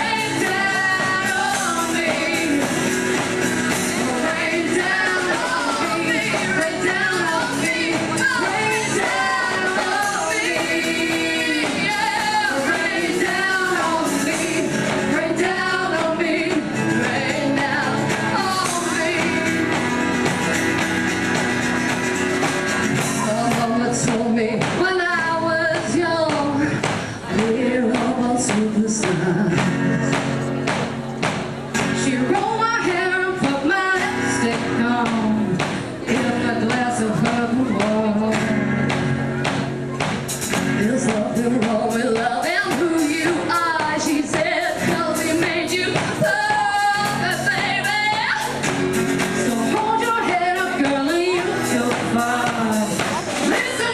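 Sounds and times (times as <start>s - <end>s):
live band with singing: 0.0s - 53.9s.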